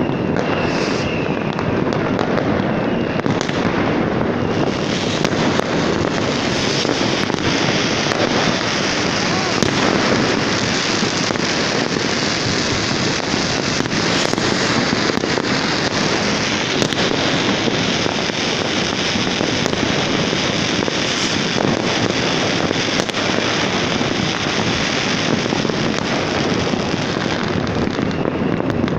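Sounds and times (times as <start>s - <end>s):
distant fireworks bangs and crackles: 0.0s - 28.9s
sharp firework reports: 0.0s - 28.9s.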